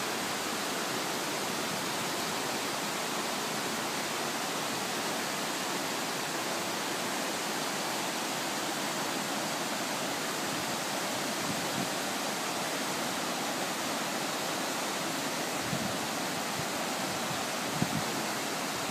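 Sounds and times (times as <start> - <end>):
river water rushing over cascades: 0.0 - 18.9.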